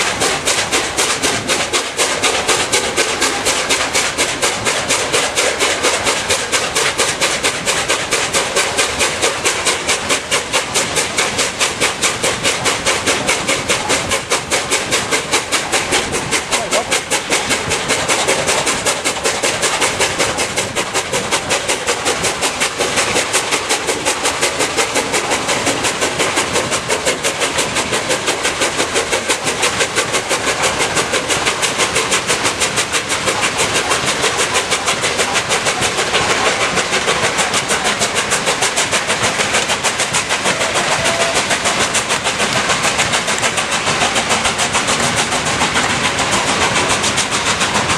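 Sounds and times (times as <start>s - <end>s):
steam locomotive chuffing: 0.0s - 47.9s.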